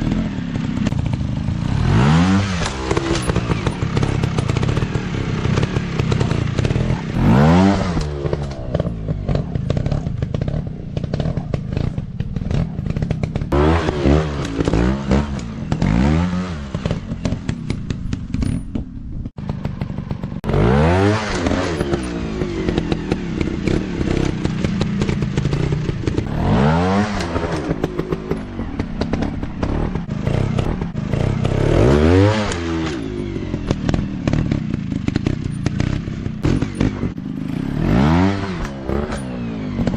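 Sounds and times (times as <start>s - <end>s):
dirt bike engines revving: 0.0s - 39.9s
rattle and clatter: 2.5s - 20.5s, 21.3s - 31.8s, 32.4s - 37.9s, 38.5s - 39.9s.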